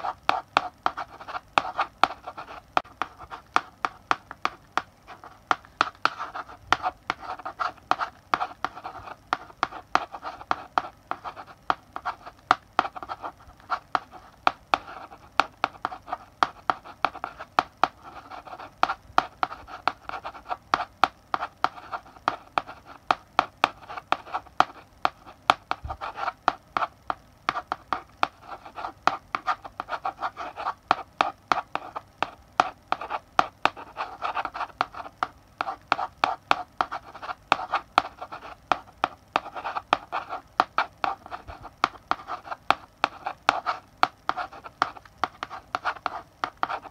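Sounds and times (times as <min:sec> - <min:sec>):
chalk writing on blackboard: 0:00.0 - 0:46.9.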